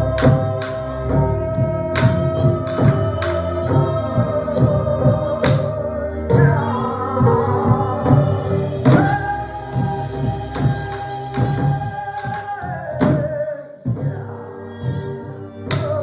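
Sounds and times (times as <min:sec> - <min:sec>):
sustained sliding melody: 0:00.0 - 0:12.9
barrel drums beating: 0:00.0 - 0:13.2.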